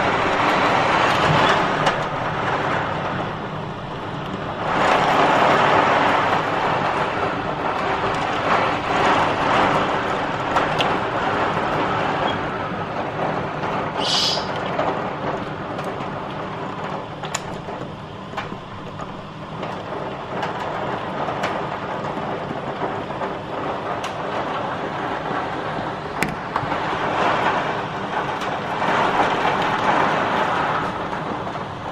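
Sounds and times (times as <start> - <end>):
hailstones ticking: 0.0 - 31.9
heavy rain and wind roaring: 0.0 - 31.9.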